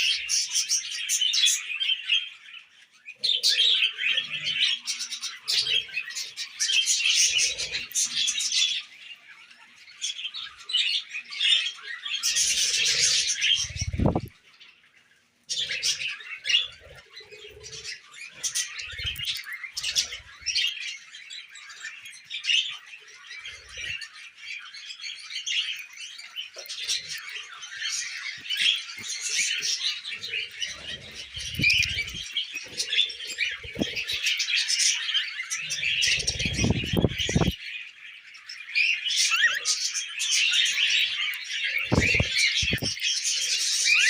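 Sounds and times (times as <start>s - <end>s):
budgies chattering and warbling: 0.0s - 44.0s.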